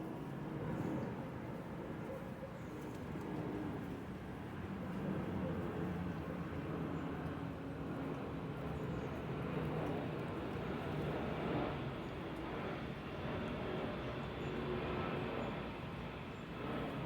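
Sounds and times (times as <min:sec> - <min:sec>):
outdoor background rumble and hiss: 0:00.0 - 0:17.0.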